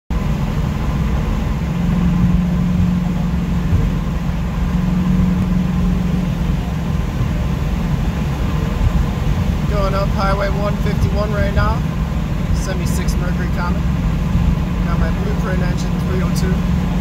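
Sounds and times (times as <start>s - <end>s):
car exhaust drone in cabin: 0.1s - 17.0s.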